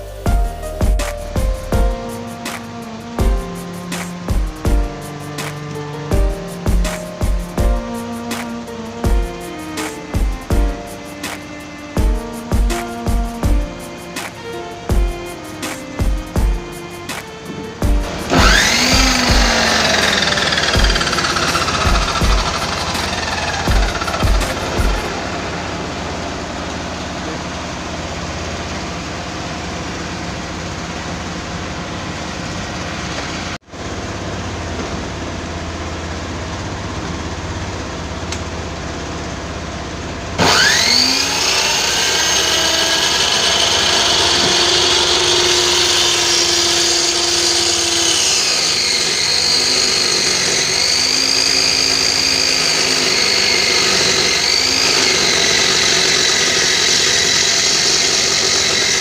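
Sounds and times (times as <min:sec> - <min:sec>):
circular saw motor whine: 0:00.0 - 0:59.0.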